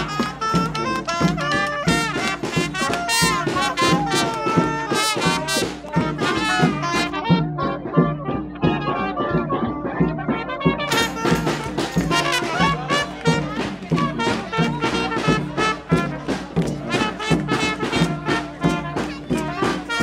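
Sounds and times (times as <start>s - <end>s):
brass band playing swing tune: 0.0s - 20.0s.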